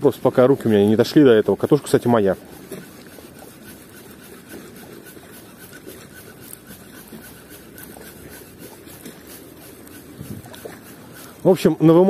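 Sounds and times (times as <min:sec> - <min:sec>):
fishing reel gear whirring: 0:00.0 - 0:12.0
light regular reel ticking: 0:00.0 - 0:12.0.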